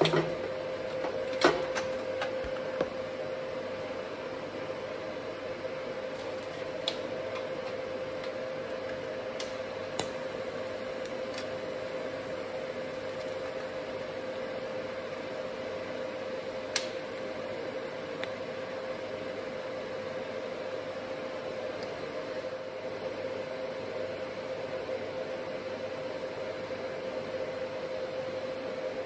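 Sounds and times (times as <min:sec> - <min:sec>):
welder humming and hissing: 0:00.0 - 0:29.0.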